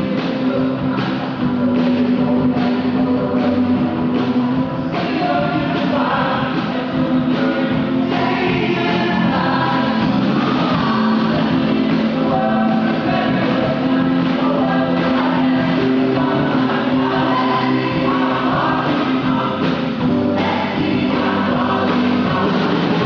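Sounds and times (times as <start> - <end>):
crowd singing together: 0.0 - 23.0
live band music: 0.0 - 23.0.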